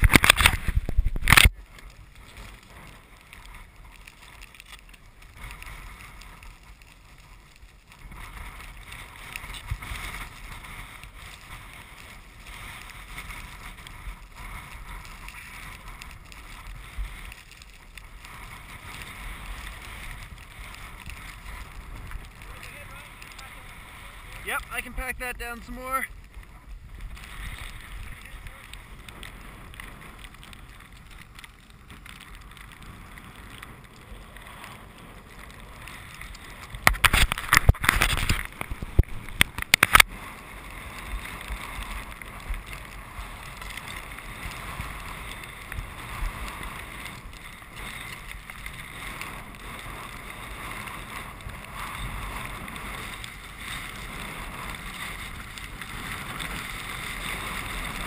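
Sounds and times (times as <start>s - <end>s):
skis sliding through snow: 0.0s - 58.0s
wind on microphone: 0.0s - 58.0s.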